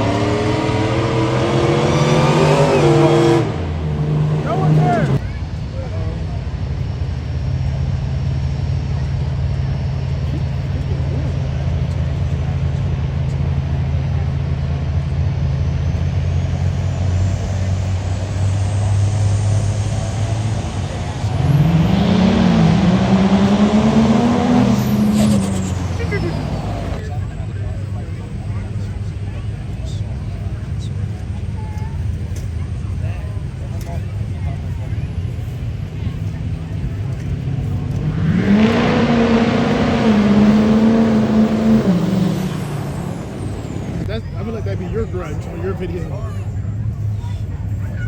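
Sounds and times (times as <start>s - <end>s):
truck engine revving: 0.0s - 48.0s.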